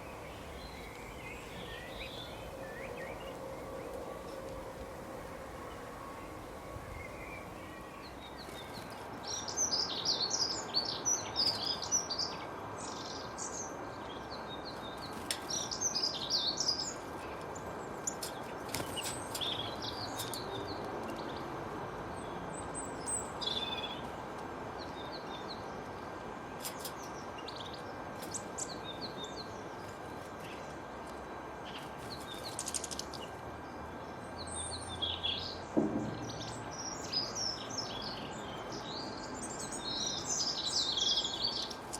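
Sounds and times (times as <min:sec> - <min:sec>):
small birds chirping: 0:00.0 - 0:41.9
steady background hiss: 0:00.0 - 0:41.9.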